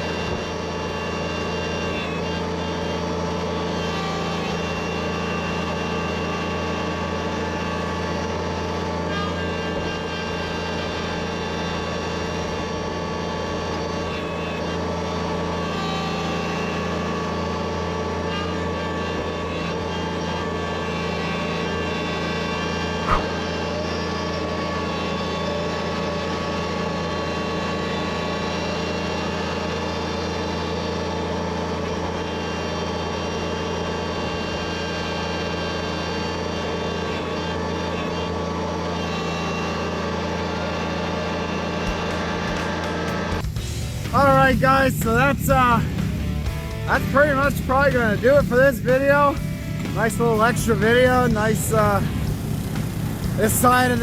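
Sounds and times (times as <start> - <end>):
wheel loader diesel engine running: 0.0 - 54.0.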